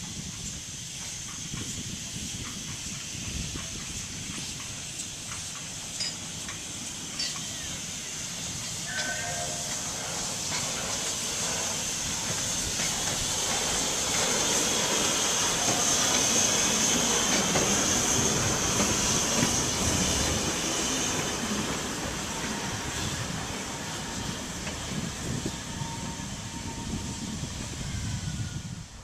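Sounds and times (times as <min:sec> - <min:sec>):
steam hissing: 0:00.0 - 0:29.0
train wheels rolling: 0:00.0 - 0:29.0.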